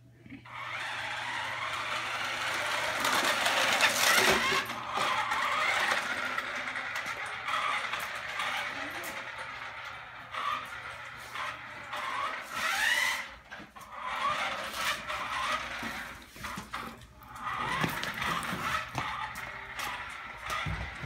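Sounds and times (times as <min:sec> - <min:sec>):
remote control truck whirring: 0:00.5 - 0:21.0.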